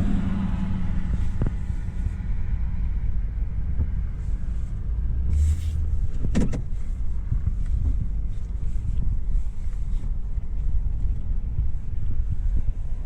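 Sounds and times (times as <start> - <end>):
vehicle motor rumble: 0.0 - 13.0.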